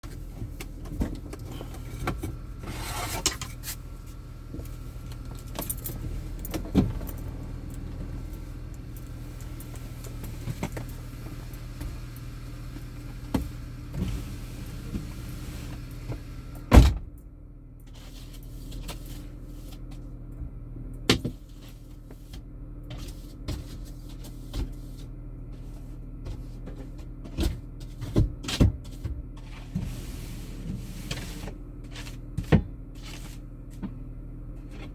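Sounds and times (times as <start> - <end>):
car engine and road hum: 0.0 - 34.9.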